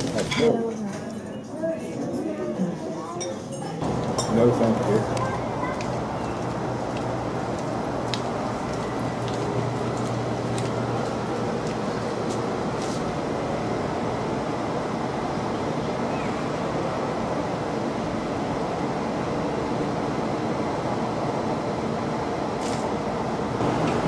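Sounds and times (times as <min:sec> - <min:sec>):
wind: 0:00.0 - 0:24.0
distant road traffic: 0:03.8 - 0:24.0.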